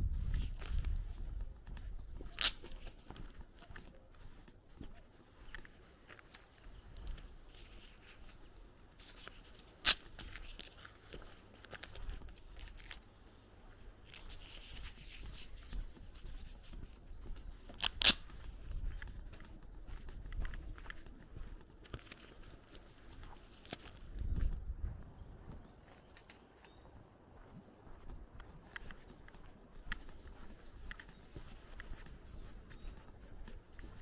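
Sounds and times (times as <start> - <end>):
footsteps on gravel: 0.0 - 34.0.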